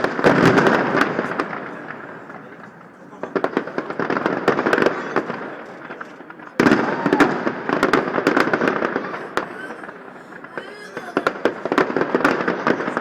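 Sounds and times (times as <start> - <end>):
fireworks bursts and crackling bangs: 0.0 - 13.0.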